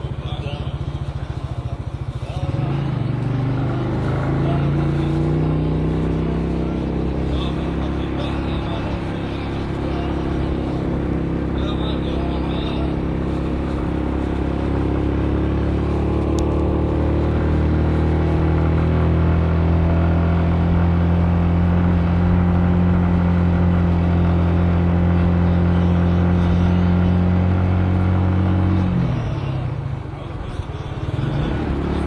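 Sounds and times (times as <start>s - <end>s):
car engine: 0.0s - 32.0s
road noise: 0.0s - 32.0s.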